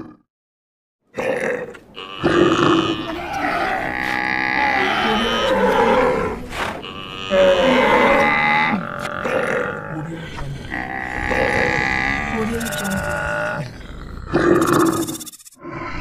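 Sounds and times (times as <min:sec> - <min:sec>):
animal calls overlapping: 0:01.9 - 0:16.0.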